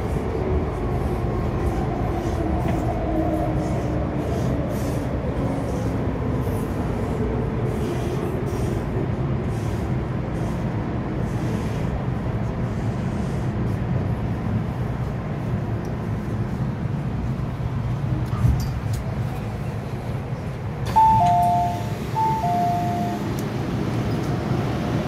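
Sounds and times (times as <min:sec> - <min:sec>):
low train rumble: 0:00.0 - 0:25.0.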